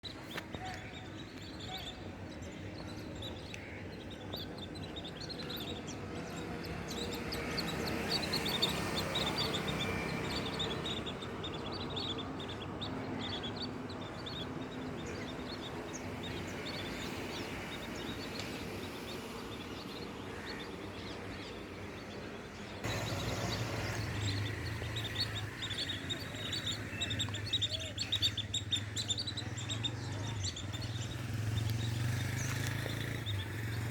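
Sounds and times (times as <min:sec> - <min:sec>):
flock of birds chirping: 0:00.0 - 0:33.9.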